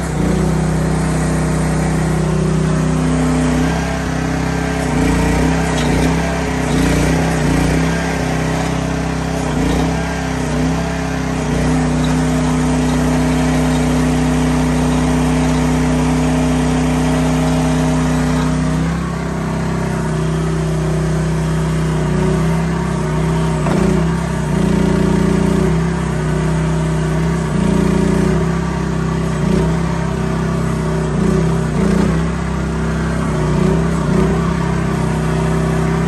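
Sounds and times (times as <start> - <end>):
small engine under load: 0.0 - 36.0.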